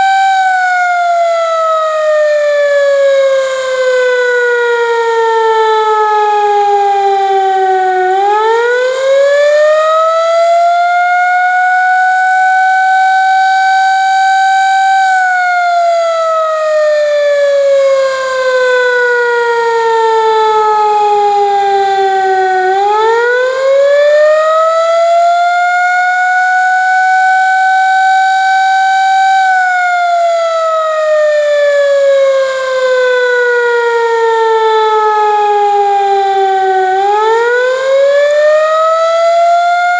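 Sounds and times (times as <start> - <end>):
air raid siren wailing: 0.0 - 39.9.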